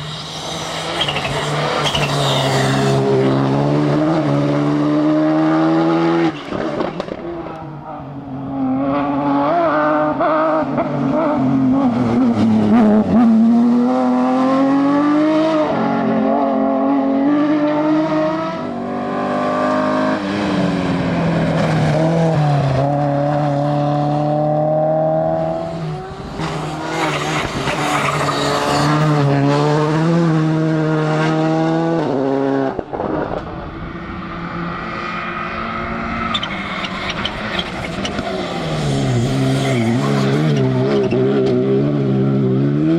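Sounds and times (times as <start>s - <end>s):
rally car engines at full throttle: 0.0s - 42.9s.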